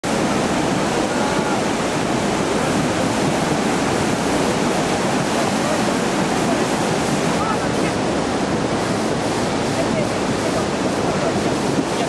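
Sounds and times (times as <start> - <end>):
flooded river roaring: 0.0 - 12.0.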